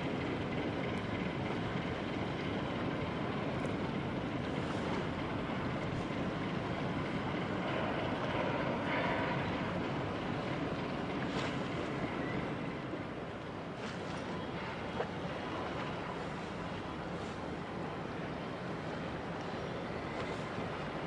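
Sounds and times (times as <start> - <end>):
light wind: 0.0 - 21.0
water: 0.0 - 21.0.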